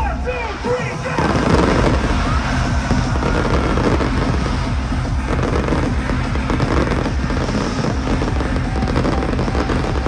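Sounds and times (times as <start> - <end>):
electronic dance music: 0.0 - 10.0
fireworks bursting and crackling: 0.8 - 10.0.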